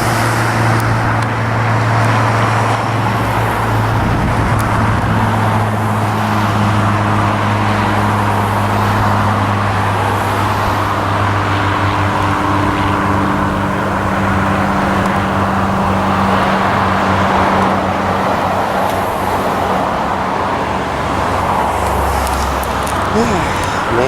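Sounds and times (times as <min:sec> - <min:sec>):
plane engine drone overhead: 0:00.0 - 0:24.0.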